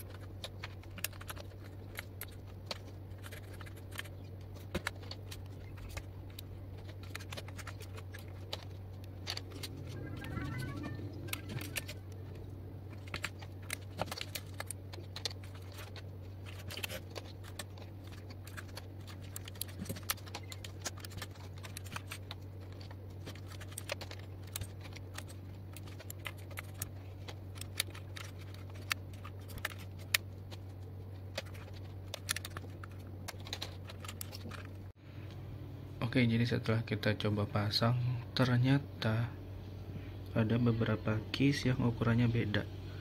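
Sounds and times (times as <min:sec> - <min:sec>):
keyboard keycaps clicking: 0:00.0 - 0:34.8
steady low hum: 0:00.0 - 0:43.0.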